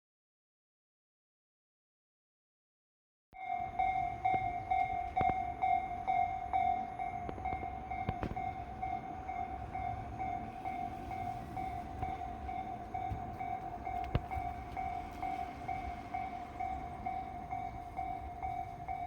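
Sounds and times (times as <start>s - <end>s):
level crossing warning bell: 3.4s - 19.0s.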